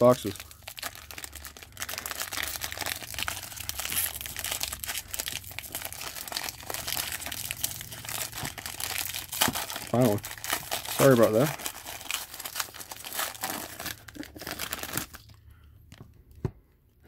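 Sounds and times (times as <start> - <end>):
foil wrapper crinkling and tearing: 0.0 - 15.4.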